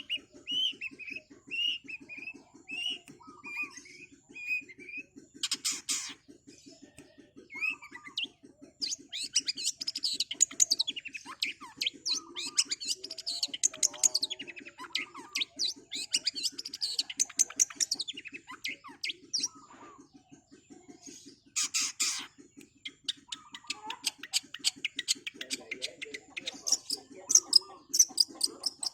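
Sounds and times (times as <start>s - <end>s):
bird singing rolling song: 0.0s - 28.9s.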